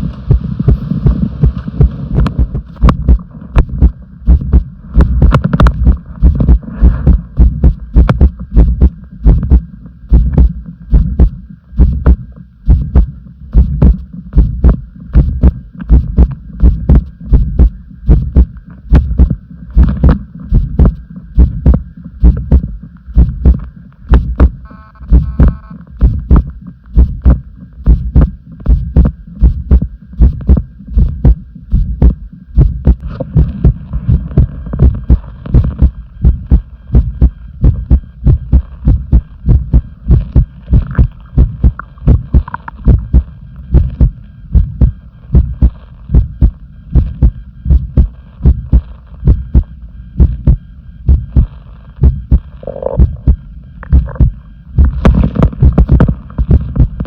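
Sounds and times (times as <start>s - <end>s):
heartbeat thumps: 0.0s - 57.0s.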